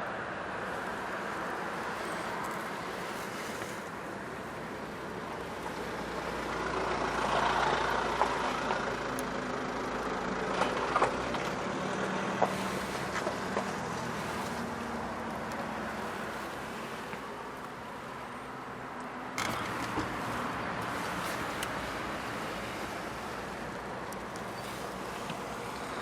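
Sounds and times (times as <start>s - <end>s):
motor vehicle noise: 0.0s - 26.0s.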